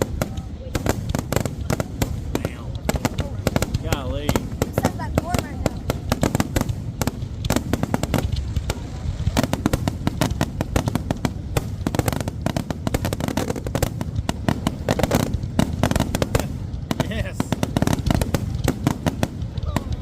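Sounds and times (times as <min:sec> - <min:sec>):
fireworks popping and crackling: 0:00.0 - 0:20.0.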